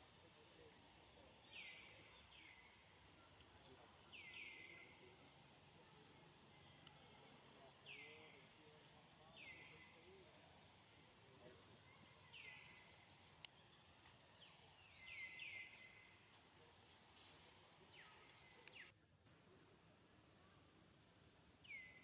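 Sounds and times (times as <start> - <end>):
faint outdoor background: 0.0 - 22.0.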